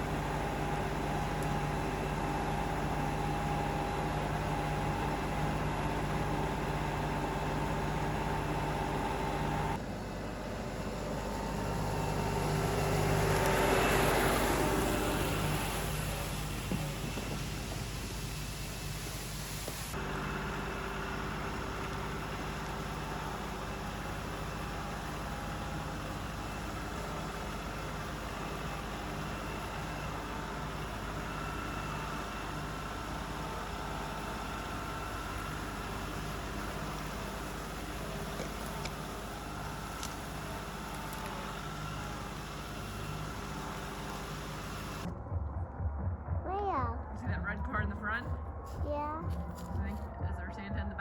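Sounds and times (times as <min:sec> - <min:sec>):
faint steady whine: 0:00.0 - 0:45.1
engine humming: 0:00.0 - 0:51.0.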